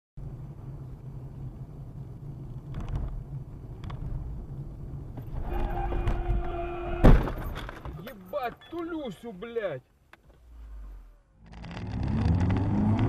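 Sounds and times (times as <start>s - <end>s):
car road and engine rumble: 0.2s - 13.0s.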